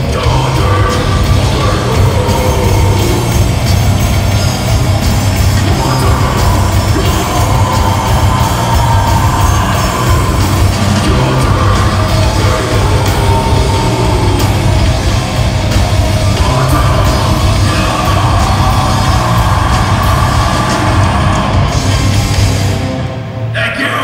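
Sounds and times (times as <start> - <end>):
heavy metal band playing live: 0.0 - 24.0
vocals: 0.0 - 24.0.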